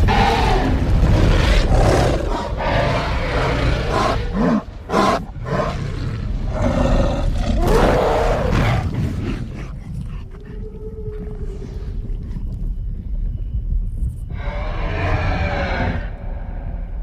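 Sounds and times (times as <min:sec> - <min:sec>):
dinosaur roars and growls: 0:00.0 - 0:11.8, 0:14.3 - 0:17.0.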